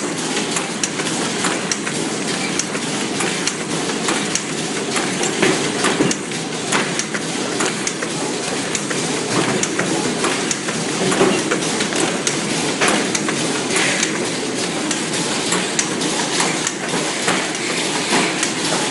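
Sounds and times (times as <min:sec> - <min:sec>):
machine clattering: 0:00.0 - 0:18.9
sharp mechanical clicks and clacks: 0:00.0 - 0:18.9.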